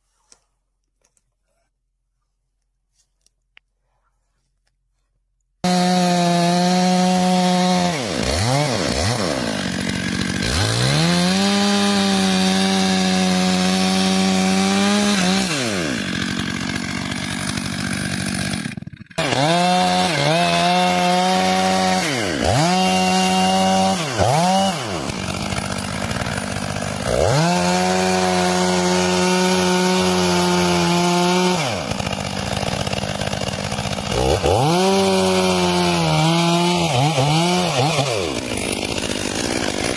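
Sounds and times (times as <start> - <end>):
chainsaw cutting wood: 5.6 - 39.9.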